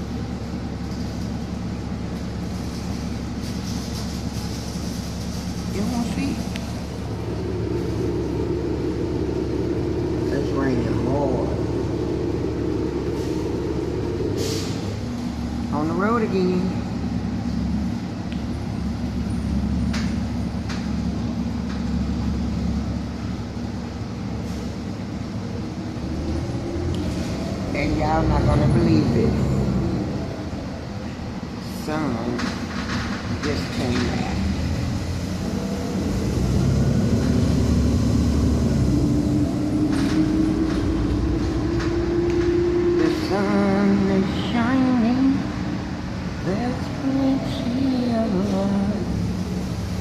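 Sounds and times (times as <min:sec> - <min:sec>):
bus engine humming: 0:00.0 - 0:50.0.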